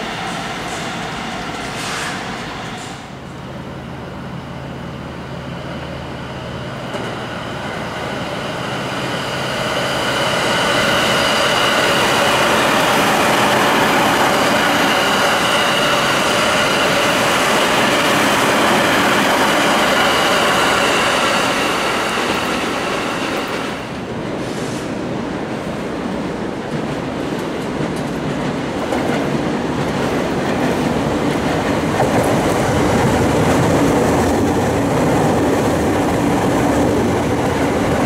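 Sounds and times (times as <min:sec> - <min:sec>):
high train whine: 0:00.0 - 0:38.0
train wheels on rails: 0:00.0 - 0:38.0.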